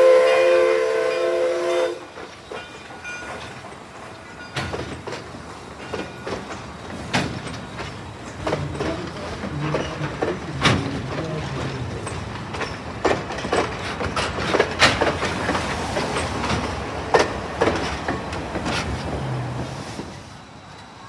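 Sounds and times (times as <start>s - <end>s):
steel wheels rumbling on rail: 0.0s - 21.0s.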